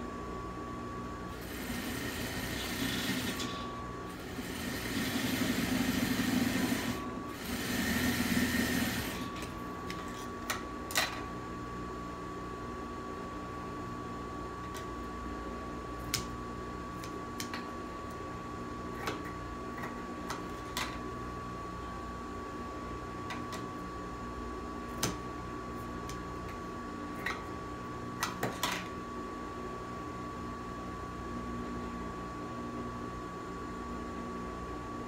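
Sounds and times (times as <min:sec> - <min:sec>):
machine hum with high whine: 0:00.0 - 0:35.0.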